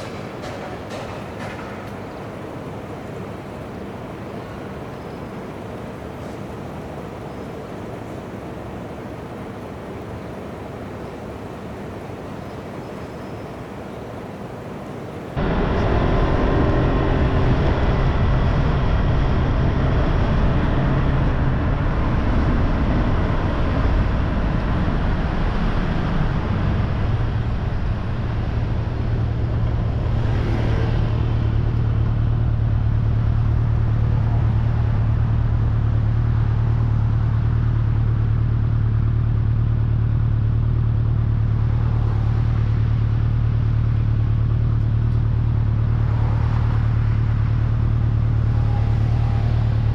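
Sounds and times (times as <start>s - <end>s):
road noise: 0.0s - 49.9s
vehicle engine drone: 0.0s - 49.9s.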